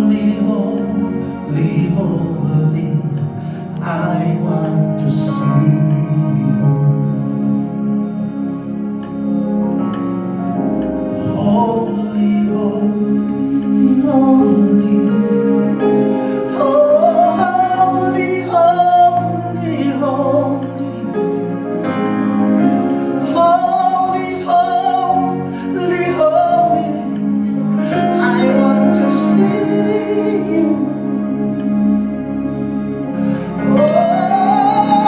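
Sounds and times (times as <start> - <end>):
held chords: 0.0 - 35.0
person singing long gliding notes: 0.0 - 35.0.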